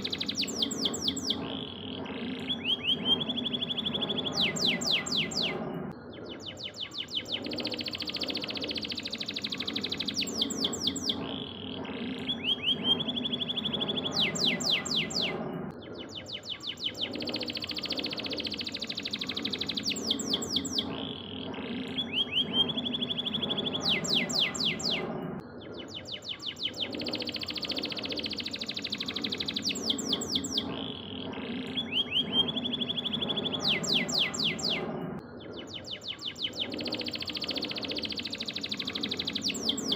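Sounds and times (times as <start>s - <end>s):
canary singing trills: 0.0s - 39.9s
steady low background sound: 0.0s - 39.9s.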